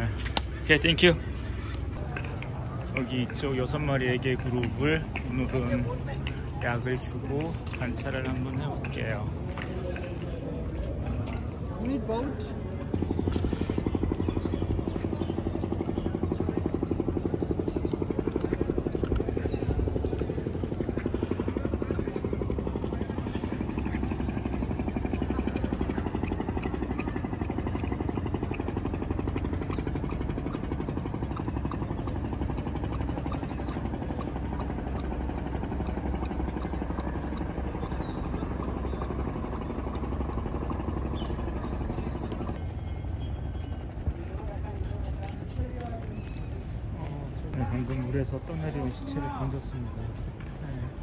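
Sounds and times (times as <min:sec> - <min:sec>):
small engine chugging: 0:00.0 - 0:51.0.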